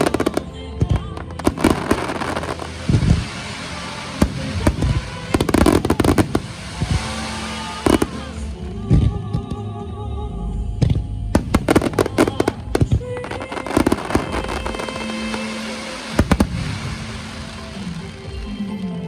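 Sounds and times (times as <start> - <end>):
fireworks bursting with bangs: 0.0 - 9.5, 11.4 - 18.5
song playing: 0.0 - 9.8, 11.3 - 18.8.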